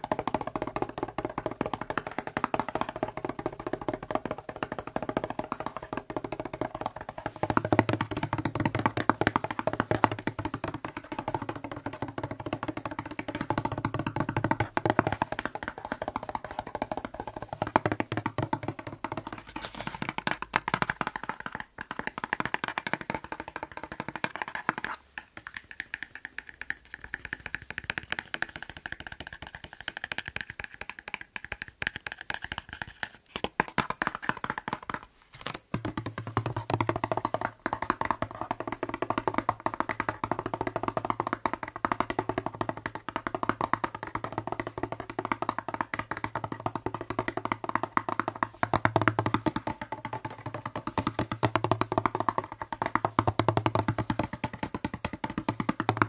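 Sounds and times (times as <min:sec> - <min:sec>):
fingertips tapping plastic bottle: 0:00.0 - 0:56.0.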